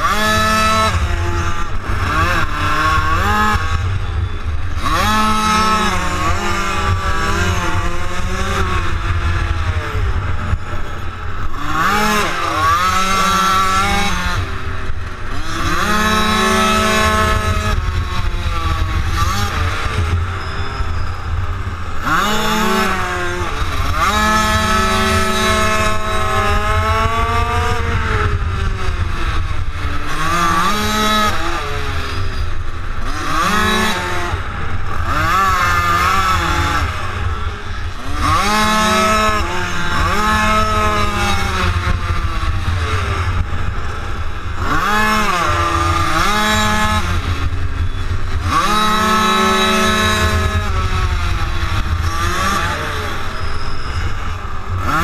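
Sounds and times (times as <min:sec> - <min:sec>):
small motorcycle engine revving: 0:00.0 - 0:55.0
wind rumble on microphone: 0:00.0 - 0:55.0.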